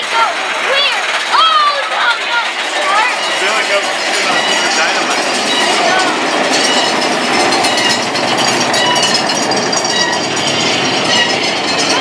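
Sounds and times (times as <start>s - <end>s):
roller coaster wheels rumbling on track: 0.0s - 12.0s.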